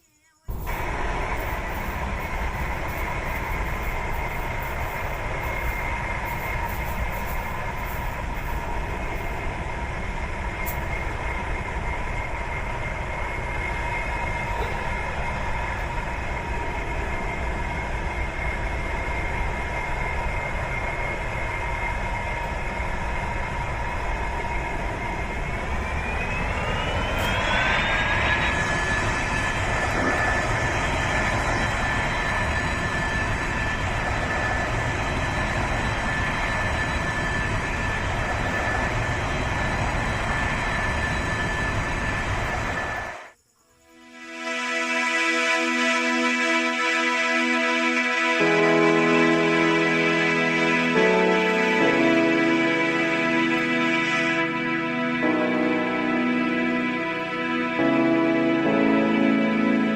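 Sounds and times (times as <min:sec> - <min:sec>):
jet engines rumbling and whining: 0:00.1 - 0:59.9.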